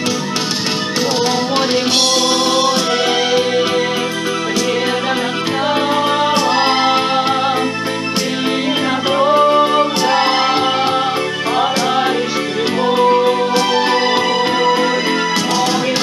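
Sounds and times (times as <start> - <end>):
keyboard accompaniment: 0.0 - 16.0
steady beat: 0.0 - 16.0
person singing: 1.0 - 16.0.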